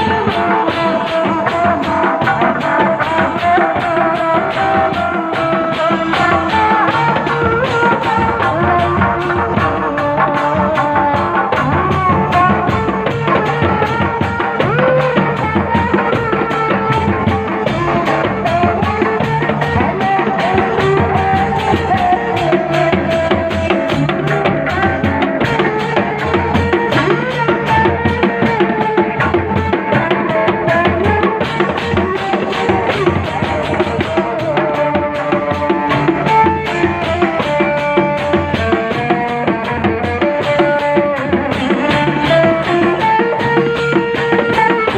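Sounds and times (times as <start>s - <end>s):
barrel drums and hand drum: 0.0s - 44.9s.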